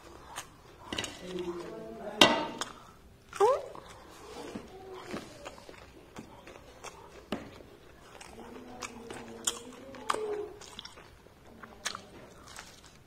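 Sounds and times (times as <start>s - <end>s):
crunchy chewing of fritters: 0.0s - 13.0s.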